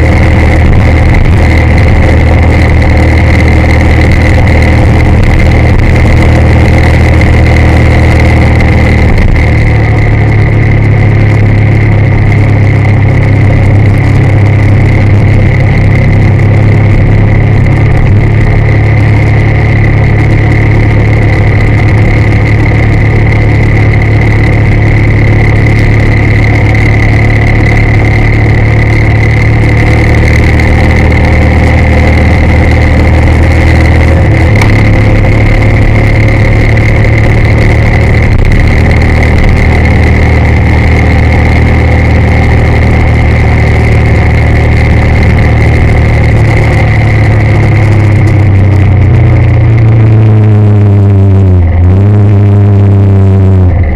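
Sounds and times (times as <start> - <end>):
car engine and road noise: 0.0 - 53.9
high-pitched whine: 0.0 - 53.9.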